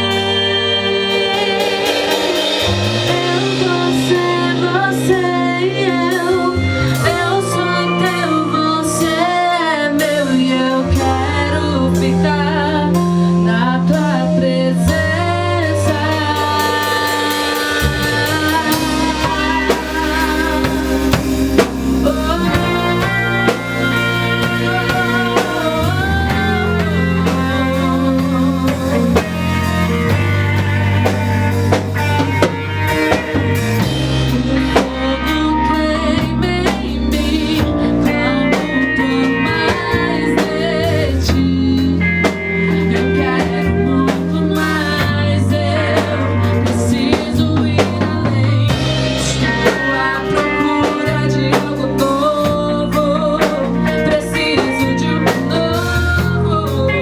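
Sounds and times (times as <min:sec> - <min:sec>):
gospel worship band playing: 0:00.0 - 0:57.0.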